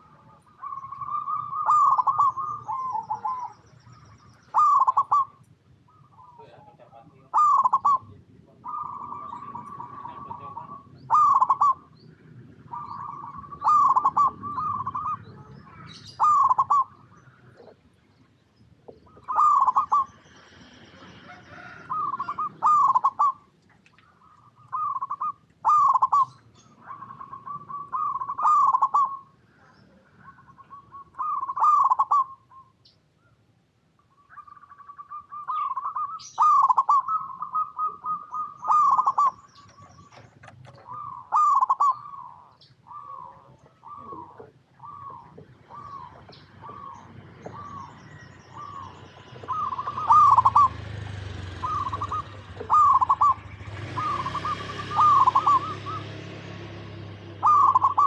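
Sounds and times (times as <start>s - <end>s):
dove cooing: 0.0s - 17.9s, 18.8s - 32.8s, 34.2s - 58.0s.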